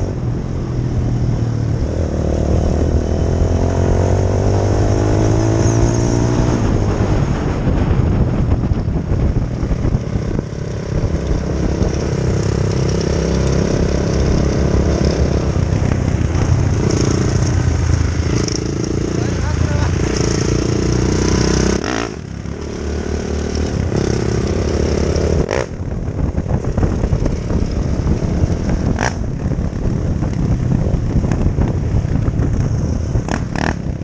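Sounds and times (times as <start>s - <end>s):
motorcycle engine running: 6.7s - 34.0s.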